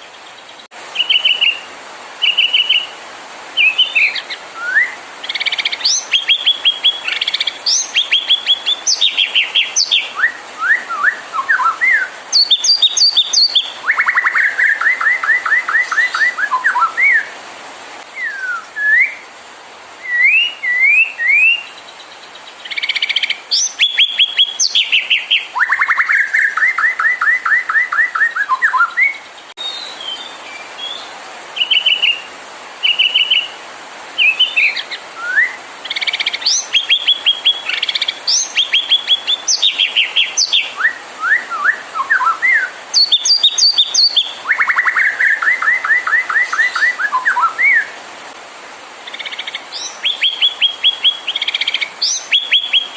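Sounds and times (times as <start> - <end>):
bird singing trills and whistles: 0.0 - 2.9, 3.6 - 17.4, 18.2 - 19.2, 20.0 - 33.6, 34.2 - 48.0, 49.1 - 52.9.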